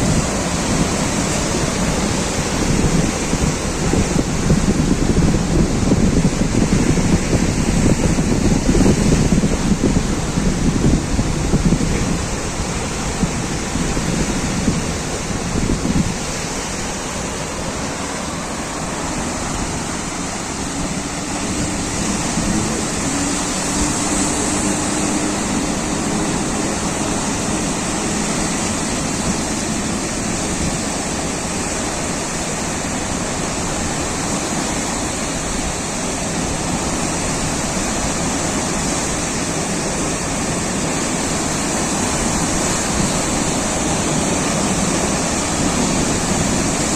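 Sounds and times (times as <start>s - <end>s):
sea waves breaking: 0.0s - 46.9s
wind buffeting microphone: 0.0s - 46.9s.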